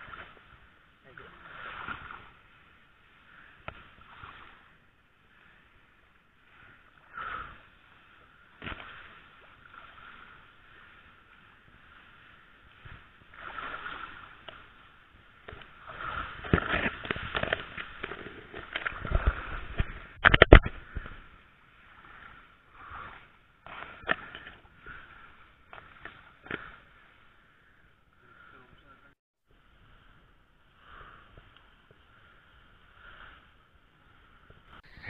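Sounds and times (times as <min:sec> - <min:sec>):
tall grass rustling: 0:00.0 - 0:28.4, 0:29.5 - 0:35.0.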